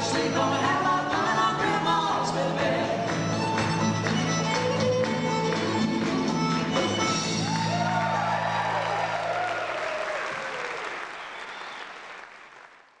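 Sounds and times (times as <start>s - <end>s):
audience applause: 1.1s - 13.0s.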